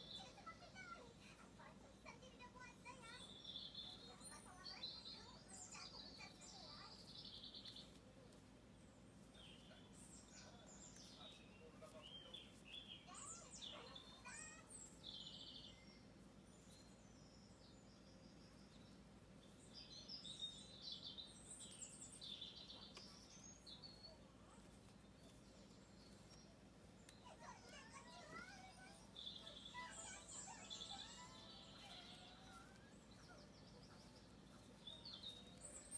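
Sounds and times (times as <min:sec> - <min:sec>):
birds chirping and trilling: 0:00.0 - 0:35.9.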